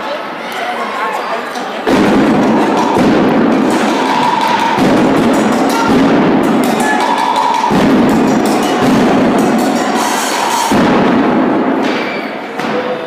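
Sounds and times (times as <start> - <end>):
crowd noise: 0.0 - 13.0
rhythmic percussion hits: 1.8 - 13.0.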